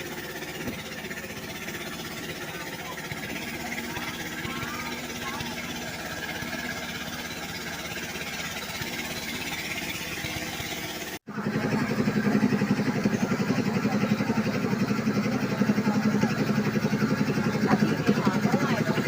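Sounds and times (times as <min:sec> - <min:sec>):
rapidly pulsing engine: 0:00.0 - 0:19.0
small engine running: 0:00.0 - 0:19.0.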